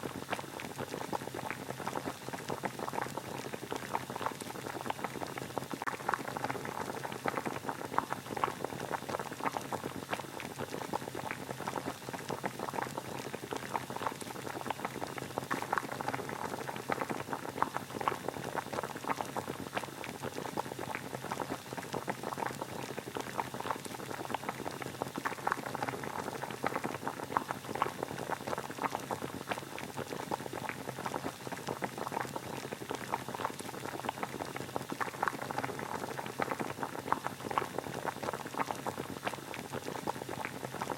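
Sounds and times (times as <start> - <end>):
water boiling: 0.0 - 40.9.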